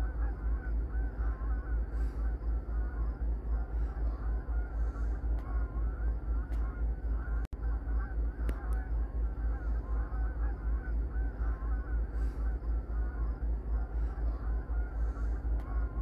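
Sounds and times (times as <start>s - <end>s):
geese honking: 0.0s - 16.0s
steady low rumble: 0.0s - 16.0s.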